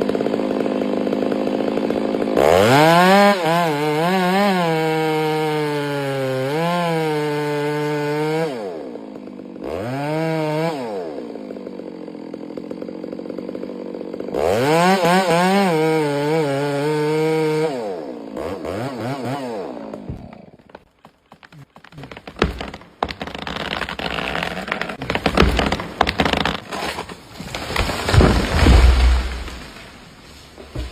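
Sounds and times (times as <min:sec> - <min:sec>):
chainsaw revving and idling: 0:00.0 - 0:30.0.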